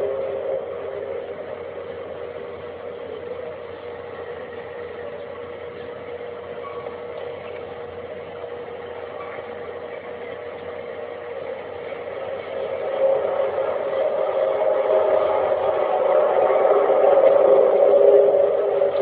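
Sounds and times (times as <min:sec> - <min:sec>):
hiss: 0:00.0 - 0:19.0
steady drone in the sky: 0:00.0 - 0:19.0.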